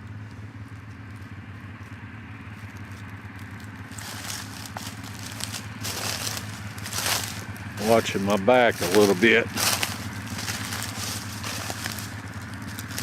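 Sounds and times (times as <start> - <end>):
quad bike engine idling: 0.0 - 13.0
rustling and crunching through brush: 0.0 - 13.0.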